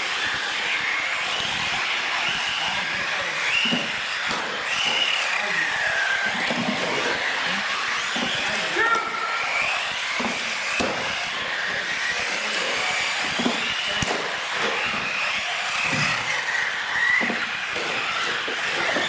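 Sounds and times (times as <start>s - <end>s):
electric motors whining: 0.0s - 19.0s
small tyres rushing on concrete: 0.0s - 19.0s.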